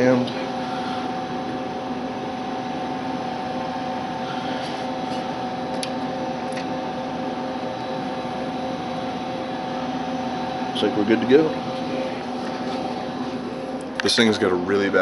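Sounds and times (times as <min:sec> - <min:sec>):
machine hum with tones: 0:00.0 - 0:15.0.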